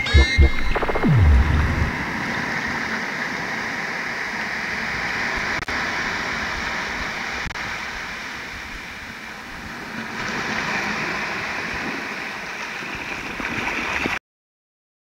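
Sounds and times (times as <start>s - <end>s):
ocean surf washing: 1.1s - 14.2s.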